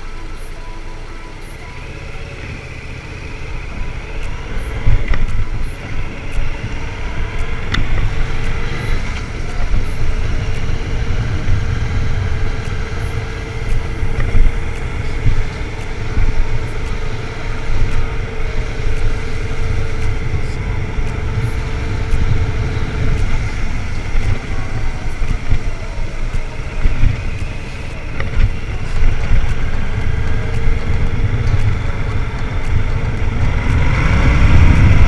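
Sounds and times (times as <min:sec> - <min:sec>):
motorcycle engine running: 0:00.0 - 0:35.0
wind rumble on microphone: 0:01.6 - 0:35.0.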